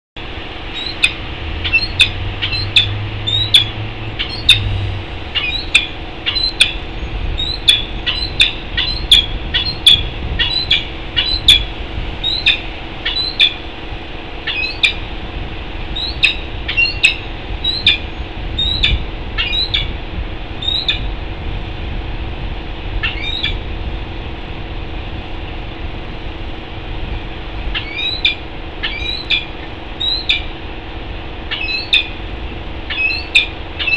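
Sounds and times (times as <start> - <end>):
steady hum: 0.2 - 33.9.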